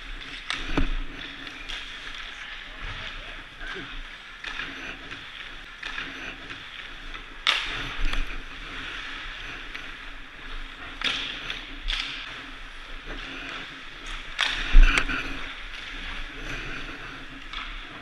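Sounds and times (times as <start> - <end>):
skate blades scraping on ice: 0.0 - 18.0.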